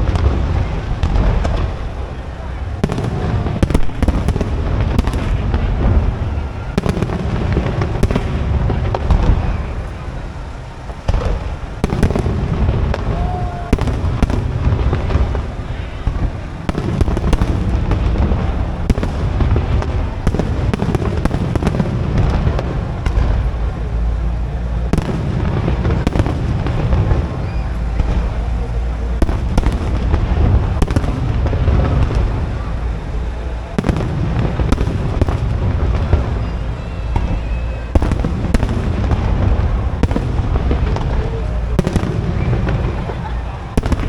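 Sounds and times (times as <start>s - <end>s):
deep rumble of booms: 0.0s - 44.0s
fireworks bursting with sharp bangs: 0.0s - 44.0s.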